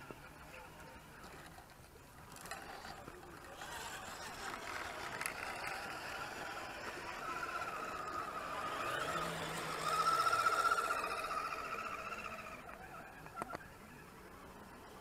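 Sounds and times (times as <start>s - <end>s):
toy truck motors whining: 0.0s - 15.0s.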